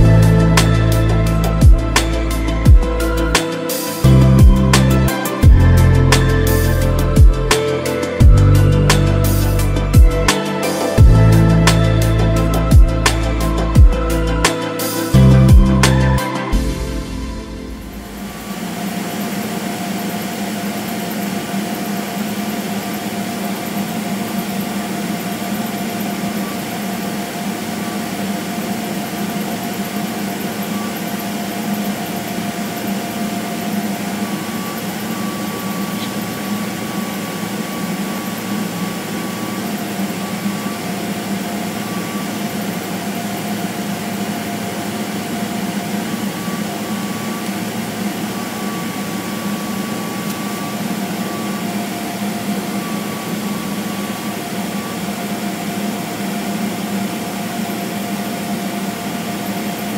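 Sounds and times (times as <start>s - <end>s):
air-conditioning hiss: 0.0s - 59.9s
faint steady whine: 0.0s - 59.9s
jet engines humming: 0.0s - 59.9s.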